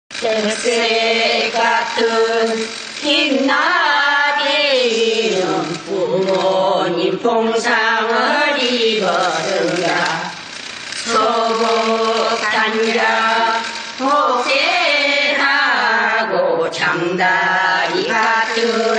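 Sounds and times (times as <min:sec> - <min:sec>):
person singing unaccompanied: 0:00.1 - 0:18.9.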